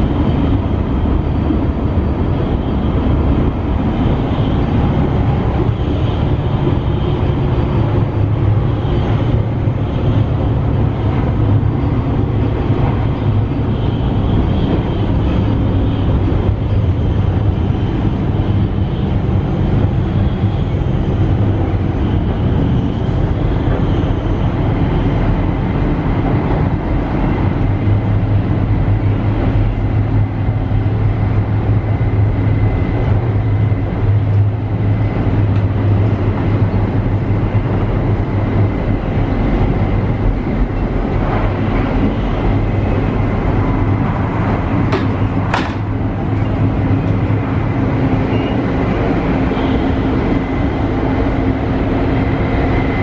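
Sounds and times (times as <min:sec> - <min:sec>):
train interior rumble: 0:00.0 - 0:53.0.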